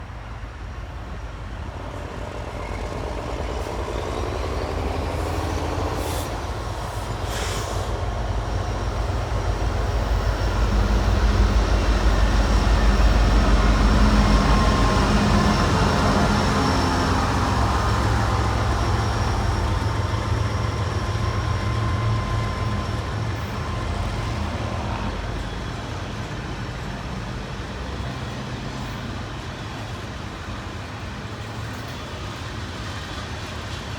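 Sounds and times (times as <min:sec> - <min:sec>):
diesel locomotives passing: 0:00.0 - 0:33.9.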